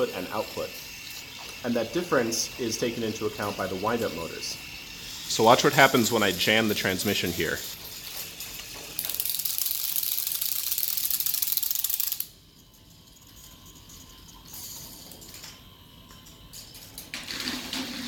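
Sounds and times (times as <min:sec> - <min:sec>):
rapid clicking of toy motors: 0:00.0 - 0:17.4.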